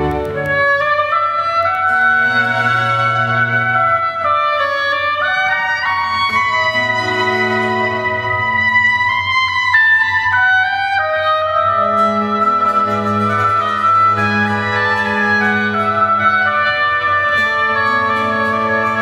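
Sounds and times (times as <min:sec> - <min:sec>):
basso continuo bass line: 0:00.0 - 0:19.0
oboes playing melody: 0:00.0 - 0:19.0
strings: 0:00.0 - 0:19.0.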